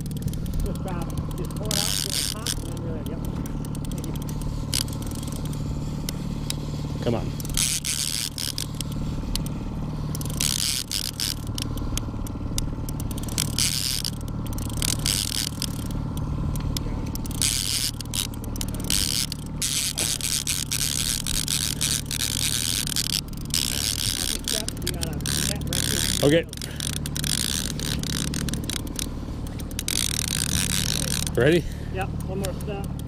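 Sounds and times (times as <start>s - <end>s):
boat motor humming: 0.0s - 33.0s.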